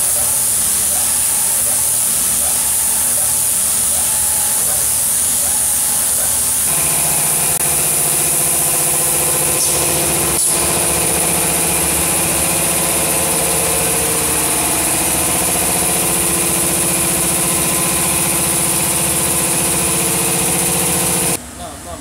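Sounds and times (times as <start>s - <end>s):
machinery humming: 0.0s - 21.6s.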